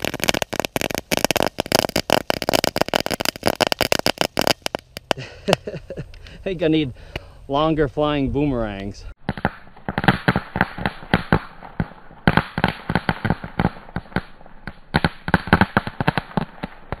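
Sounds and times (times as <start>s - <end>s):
fireworks crackling pops: 0.0s - 6.3s, 8.8s - 17.0s.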